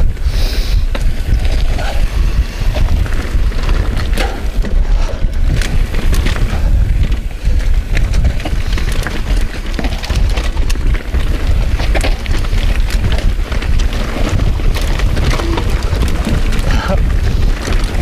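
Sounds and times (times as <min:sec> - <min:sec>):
bike clicks and rattles: 0:00.0 - 0:18.0
wind buffeting microphone: 0:00.0 - 0:18.0
tyres rolling over dirt: 0:00.9 - 0:18.0.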